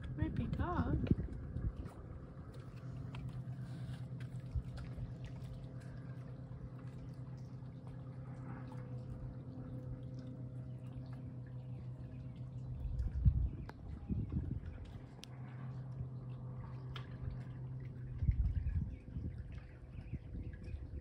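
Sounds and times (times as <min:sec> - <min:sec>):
small waves lapping: 0:00.0 - 0:21.0
steady low hum: 0:00.0 - 0:21.0.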